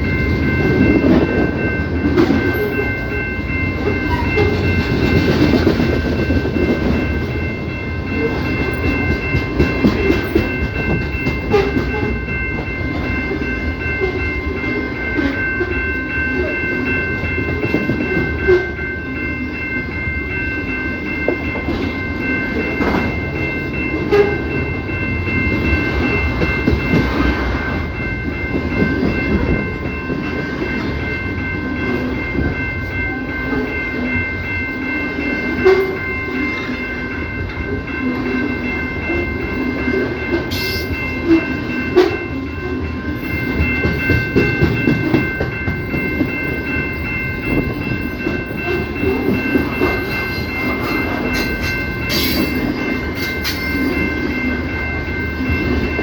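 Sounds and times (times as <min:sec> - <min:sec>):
rail cars rumbling: 0:00.0 - 0:56.0.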